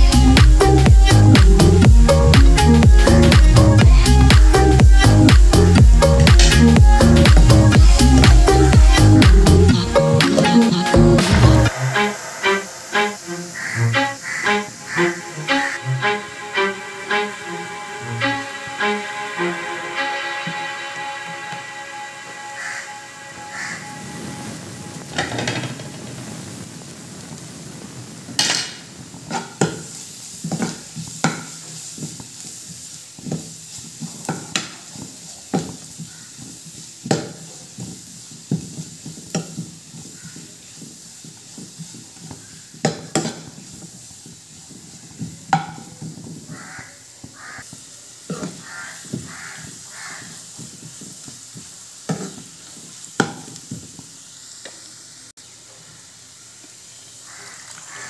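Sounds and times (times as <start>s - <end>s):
onions sizzling in a pan: 0.0s - 58.0s.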